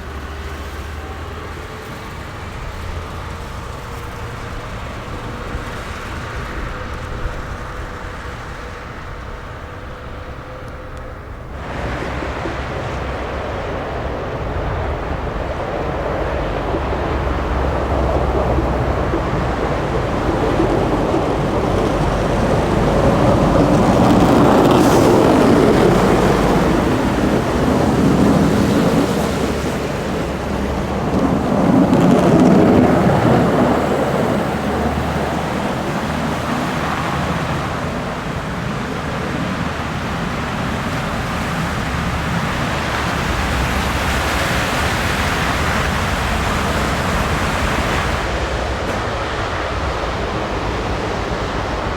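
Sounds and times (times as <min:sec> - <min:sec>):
trucks driving past: 0:00.0 - 0:51.9.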